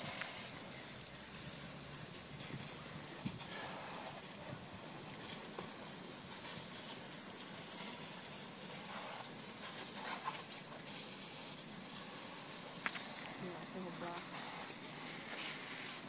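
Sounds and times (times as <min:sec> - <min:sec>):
hose water spraying: 0:00.0 - 0:16.0.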